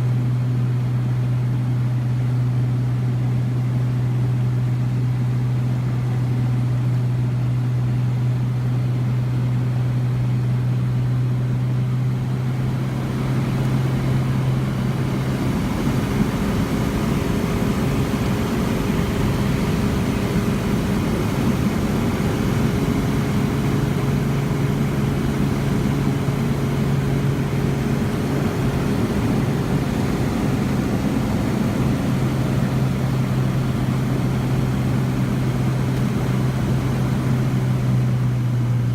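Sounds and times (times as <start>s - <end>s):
propeller engine drone: 0.0s - 38.9s.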